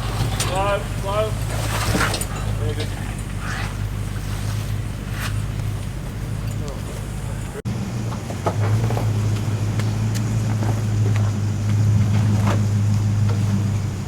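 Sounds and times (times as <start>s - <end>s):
vehicle engine at low revs: 0.0s - 14.0s.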